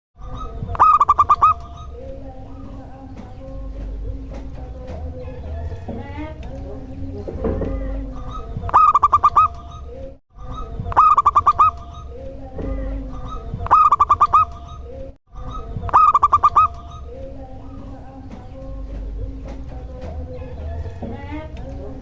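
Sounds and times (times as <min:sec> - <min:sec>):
dove cooing: 0:00.2 - 0:05.9, 0:07.5 - 0:12.2, 0:12.9 - 0:21.1.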